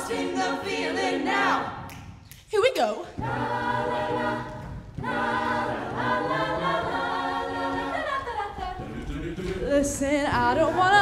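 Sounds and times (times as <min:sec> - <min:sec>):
a cappella group singing chords: 0:00.0 - 0:01.9, 0:03.1 - 0:11.0.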